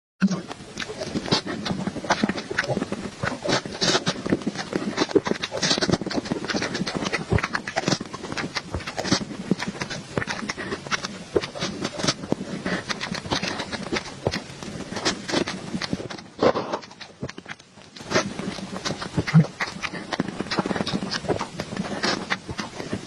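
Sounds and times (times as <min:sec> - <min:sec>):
person chewing cake: 0:00.2 - 0:23.0.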